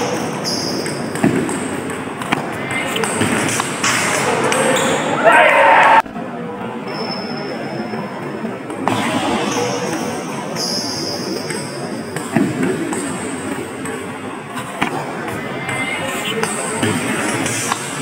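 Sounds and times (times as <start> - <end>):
murmur of hall noise: 0.0 - 18.0.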